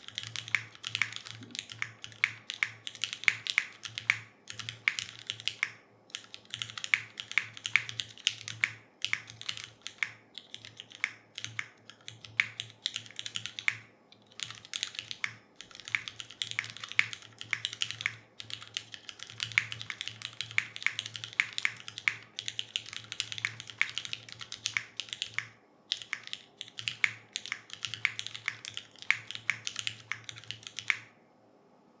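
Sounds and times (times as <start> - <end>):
mechanical keyboard typing: 0.0 - 31.2.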